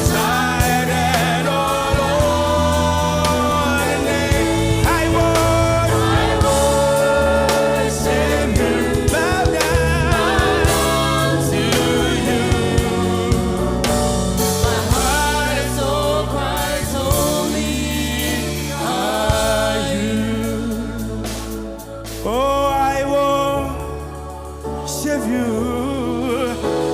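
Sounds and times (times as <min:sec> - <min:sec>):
band with bass and drums: 0:00.0 - 0:26.9
choir singing gospel song: 0:00.0 - 0:26.9.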